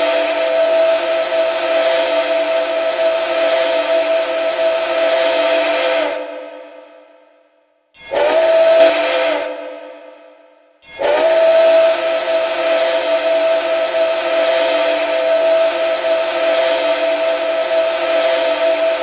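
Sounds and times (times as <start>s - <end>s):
steam whistle chord blasts: 0.0s - 7.0s, 8.0s - 19.0s.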